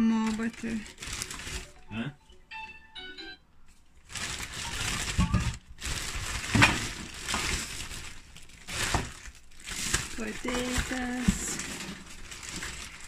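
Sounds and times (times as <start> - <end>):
plastic bags rustling: 0.0 - 2.1, 3.7 - 13.0.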